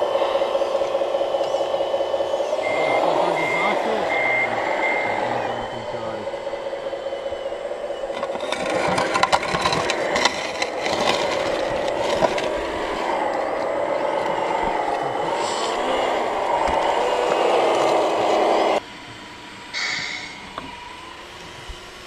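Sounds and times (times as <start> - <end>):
whining toy motor: 0.0 - 22.0.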